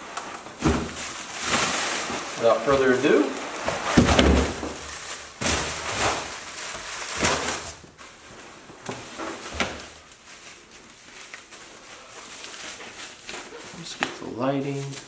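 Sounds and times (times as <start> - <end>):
paper and bubble wrap rustling: 0.0 - 15.0.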